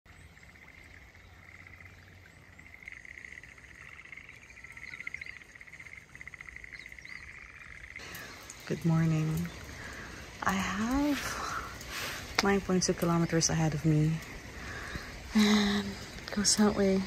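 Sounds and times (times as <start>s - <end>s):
frogs trilling: 0.1s - 17.0s.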